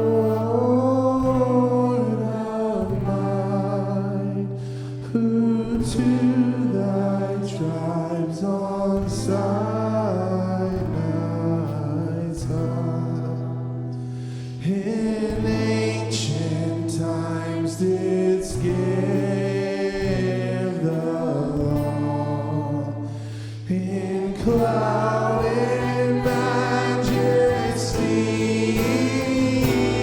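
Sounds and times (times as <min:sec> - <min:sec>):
worship band music: 0:00.0 - 0:12.3, 0:14.2 - 0:30.0.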